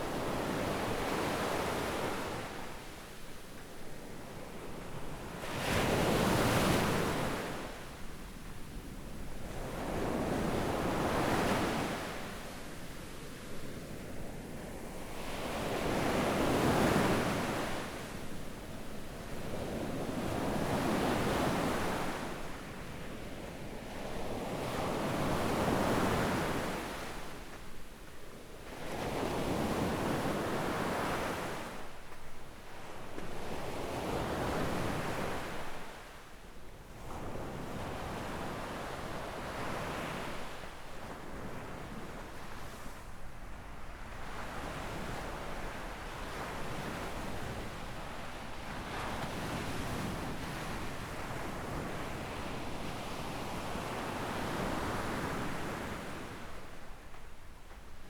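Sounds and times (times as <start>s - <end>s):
small waves washing up a beach: 0.0s - 58.0s.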